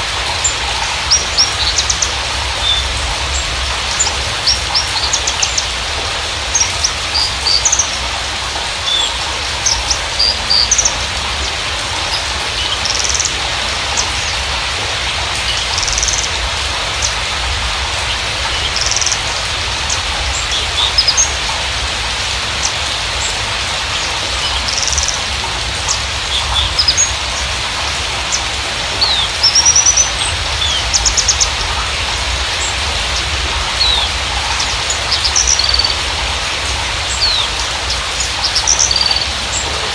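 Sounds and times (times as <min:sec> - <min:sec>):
steady rain-like hiss: 0:00.0 - 0:39.9
bird chirping and trilling: 0:00.4 - 0:05.8, 0:06.5 - 0:08.0, 0:08.8 - 0:14.5, 0:15.4 - 0:17.2, 0:18.0 - 0:21.5, 0:22.6 - 0:25.3, 0:25.9 - 0:27.5, 0:28.2 - 0:32.0, 0:32.6 - 0:36.1, 0:37.0 - 0:39.6.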